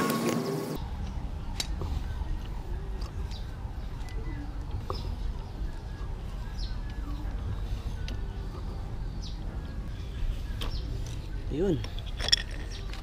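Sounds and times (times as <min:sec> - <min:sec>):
steady low rumble: 0:00.7 - 0:13.0.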